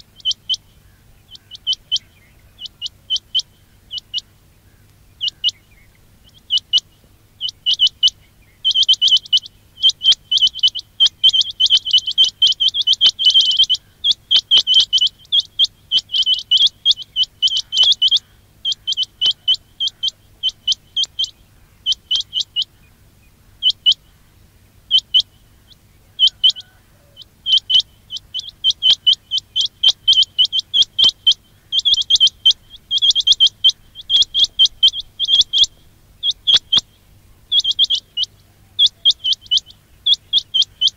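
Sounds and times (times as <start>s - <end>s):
quail chirping: 0.0s - 40.9s.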